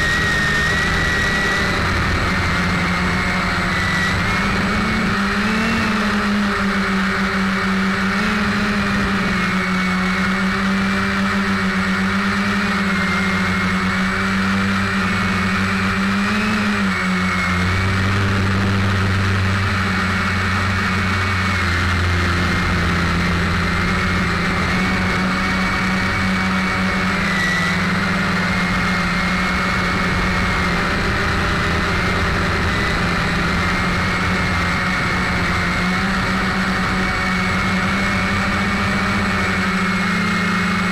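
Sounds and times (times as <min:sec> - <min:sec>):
drone propellers buzzing: 0:00.0 - 0:40.9.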